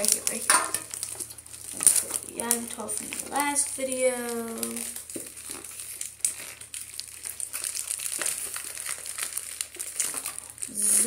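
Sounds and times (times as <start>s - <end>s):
plastic card sleeve crinkling: 0.0s - 11.0s.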